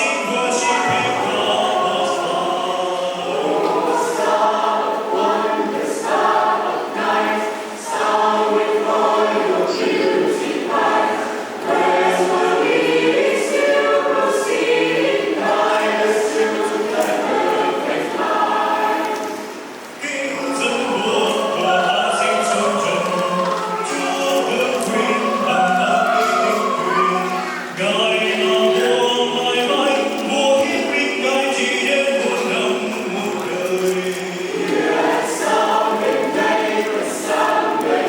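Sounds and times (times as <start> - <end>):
choir singing: 0.0 - 38.0.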